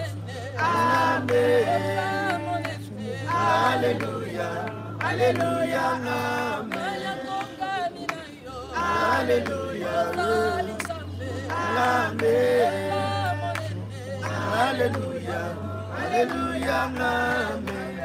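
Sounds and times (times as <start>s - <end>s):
group singing without accompaniment: 0.0s - 18.0s.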